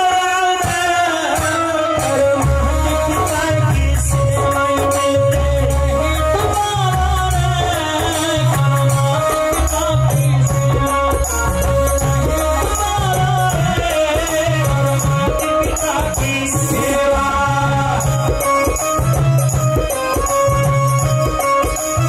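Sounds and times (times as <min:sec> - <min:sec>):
dholak and percussion beat: 0:00.0 - 0:22.0.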